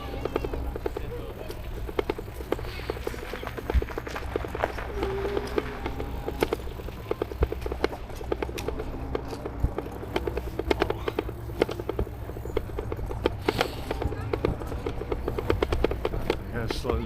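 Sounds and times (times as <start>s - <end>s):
bike rattling over bumps: 0.0s - 17.0s
low rumble of riding: 0.0s - 17.0s.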